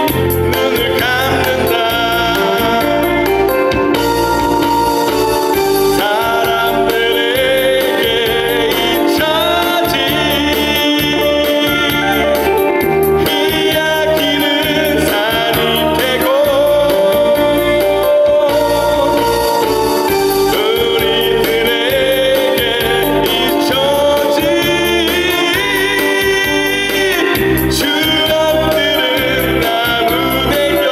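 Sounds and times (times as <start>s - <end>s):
man singing into microphone: 0.0s - 3.7s, 5.9s - 19.8s, 20.5s - 30.9s
amplified instrumental accompaniment: 0.0s - 30.9s.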